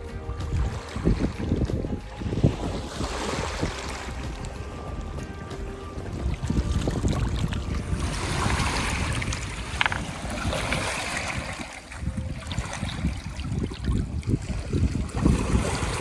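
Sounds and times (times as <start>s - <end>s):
waves washing on shore: 0.0s - 16.0s
wind buffeting microphone: 0.0s - 16.0s.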